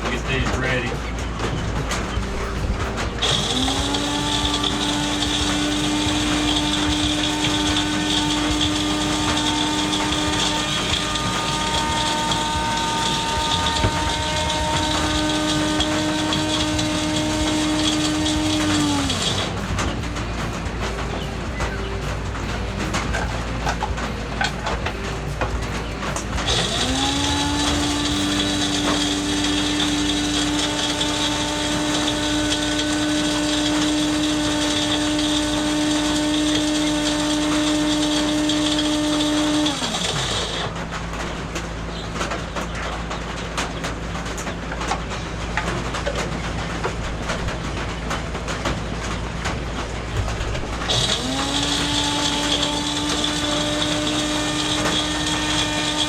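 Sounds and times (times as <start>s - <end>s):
electric water pump humming: 0.0s - 56.0s.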